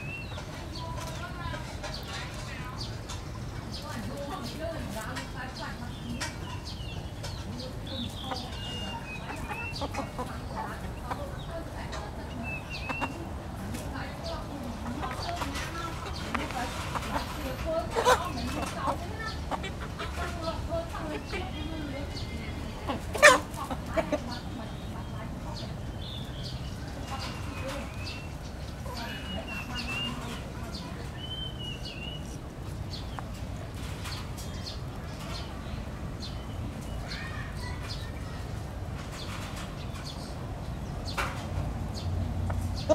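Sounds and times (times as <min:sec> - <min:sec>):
birds chirping: 0:00.0 - 0:42.9
chickens clucking softly: 0:06.0 - 0:42.9.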